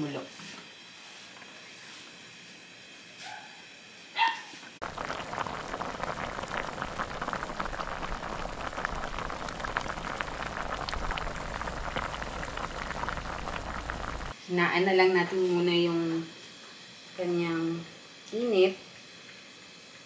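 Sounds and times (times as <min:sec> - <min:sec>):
broth boiling with bubbling crackle: 0:00.0 - 0:03.9, 0:04.8 - 0:20.0.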